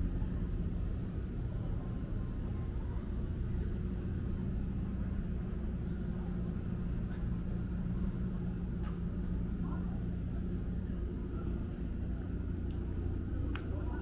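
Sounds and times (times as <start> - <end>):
faint steady hum: 0.0 - 14.0
road traffic rumble: 0.0 - 14.0.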